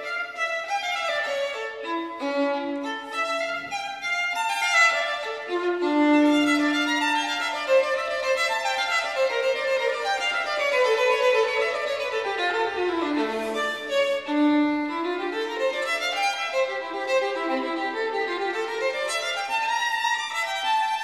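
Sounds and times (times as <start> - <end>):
solo violin melody: 0.0 - 21.0.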